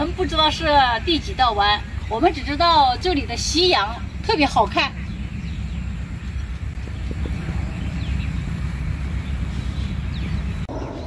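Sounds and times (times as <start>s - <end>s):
bird chirps: 0.0s - 11.0s
low outdoor rumble: 0.0s - 11.0s.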